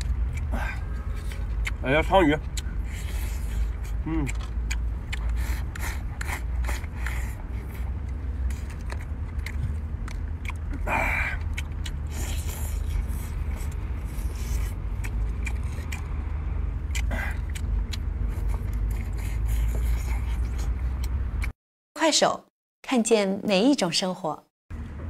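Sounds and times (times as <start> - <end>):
man chewing and slurping: 0.0 - 21.5
steady low rumble: 0.0 - 21.5.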